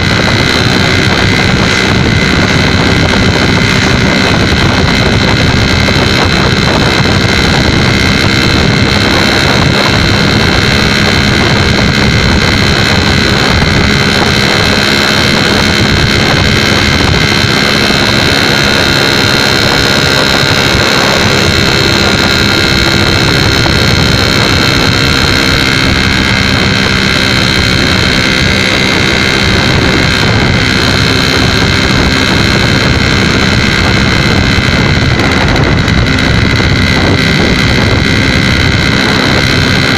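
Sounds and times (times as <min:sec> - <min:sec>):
two-stroke motorcycle engine running: 0:00.0 - 0:39.9
wind rushing over microphone: 0:00.0 - 0:39.9.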